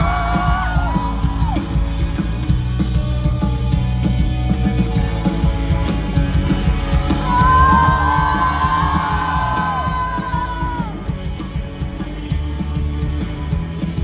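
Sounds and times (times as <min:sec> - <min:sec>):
pop-rock band playing: 0:00.0 - 0:14.0.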